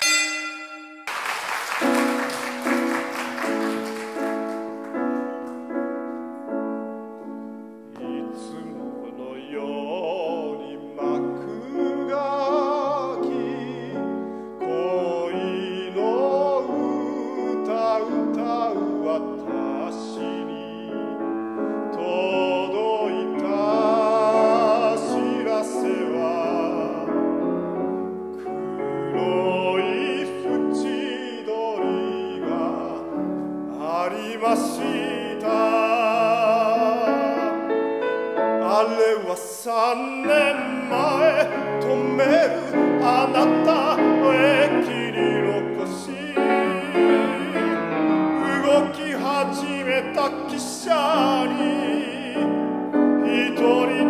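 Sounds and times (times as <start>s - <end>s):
grand piano playing: 0.0s - 54.0s
man singing classically: 7.9s - 27.5s, 28.4s - 54.0s.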